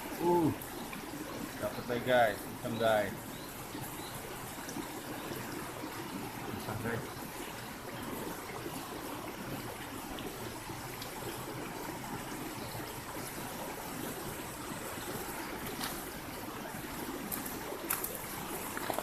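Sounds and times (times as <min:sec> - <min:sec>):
shallow river flowing: 0:00.0 - 0:19.0.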